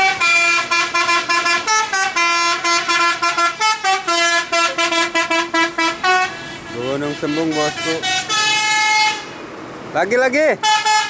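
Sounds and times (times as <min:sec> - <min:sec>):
bus horn playing a tune: 0:00.0 - 0:09.4, 0:10.6 - 0:11.0.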